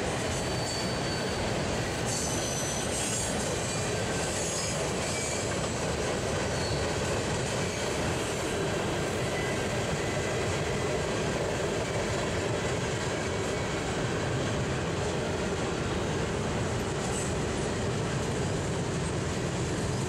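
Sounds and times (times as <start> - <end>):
freight train rolling on rails: 0.0 - 20.0.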